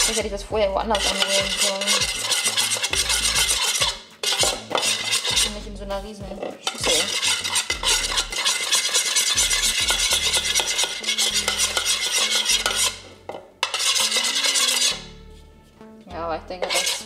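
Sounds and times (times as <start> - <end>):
spoon scraping a bowl: 0.0 - 0.2, 0.9 - 15.4, 16.5 - 17.0.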